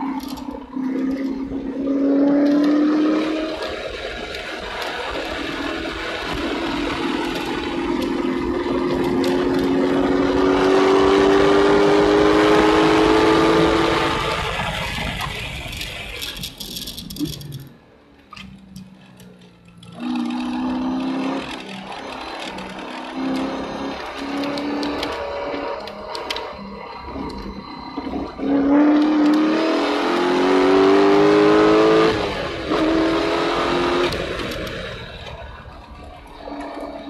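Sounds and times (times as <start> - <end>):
car engine at full throttle: 0.0 - 37.0.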